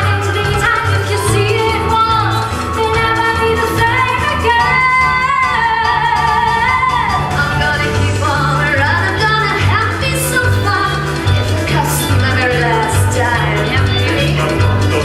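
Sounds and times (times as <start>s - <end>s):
person singing pop song: 0.0s - 15.0s
pulsing bass line: 0.0s - 15.0s.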